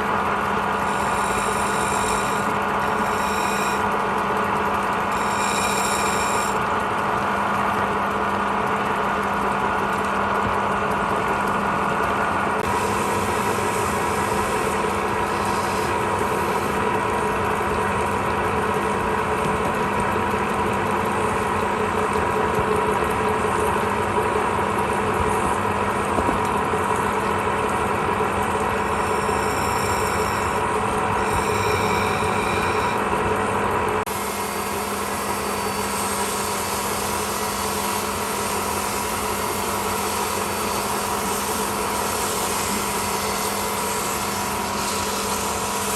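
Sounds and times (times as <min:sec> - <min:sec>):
wood lathe motor hum: 0:00.0 - 0:45.9.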